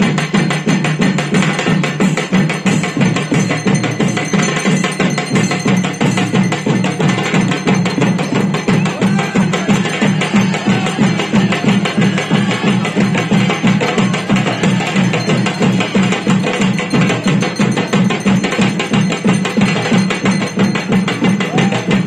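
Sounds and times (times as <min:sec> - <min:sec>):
fast ceremonial drumming: 0:00.0 - 0:22.0.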